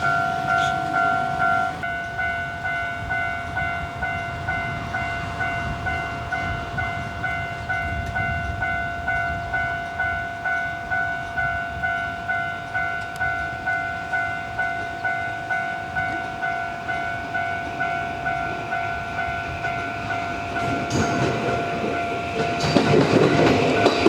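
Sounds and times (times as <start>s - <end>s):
level-crossing warning bell: 0.0s - 24.0s
train rumble: 0.0s - 24.0s.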